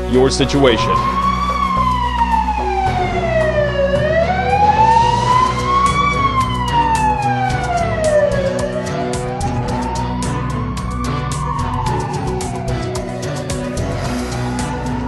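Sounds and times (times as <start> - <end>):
background music: 0.0 - 15.0
wailing siren: 0.0 - 15.0.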